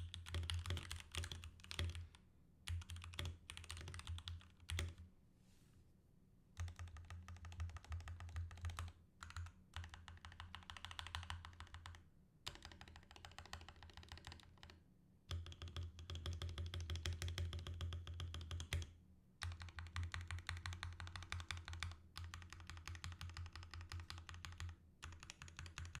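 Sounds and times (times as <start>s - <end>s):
mechanical keyboard typing: 0.0s - 2.1s, 2.7s - 5.0s, 6.6s - 26.0s.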